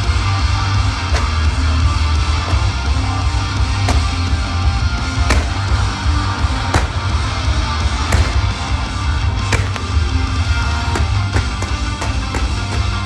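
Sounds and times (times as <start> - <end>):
loud rock music: 0.0 - 13.0
sharp cracks: 1.0 - 13.0.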